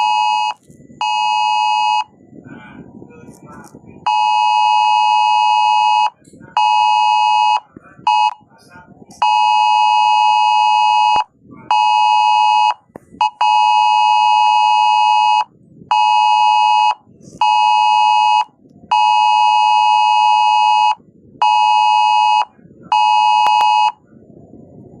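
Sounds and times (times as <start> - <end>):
alarm buzzing: 0.0 - 2.2, 4.1 - 8.5, 9.2 - 24.0.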